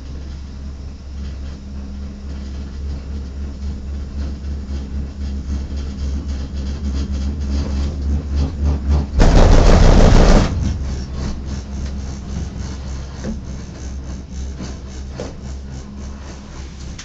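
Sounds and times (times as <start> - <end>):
gondola cabin humming: 0.0 - 17.0
rumbling clatter over sheave wheels: 0.0 - 17.0.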